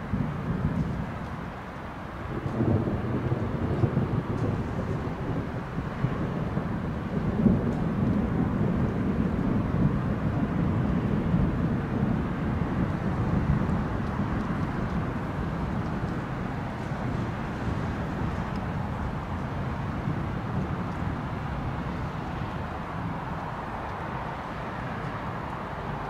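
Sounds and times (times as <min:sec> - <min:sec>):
distant thunder rumbling: 0:00.0 - 0:26.0.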